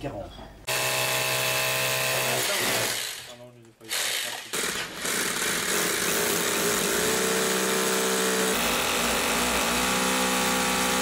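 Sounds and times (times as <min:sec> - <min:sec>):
hammer drill boring into concrete: 0:00.7 - 0:11.0.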